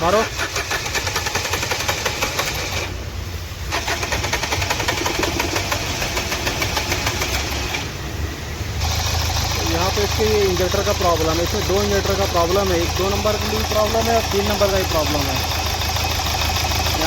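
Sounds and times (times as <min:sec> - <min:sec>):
diesel engine knocking clatter: 0:00.0 - 0:03.0, 0:03.7 - 0:08.1, 0:08.7 - 0:17.0.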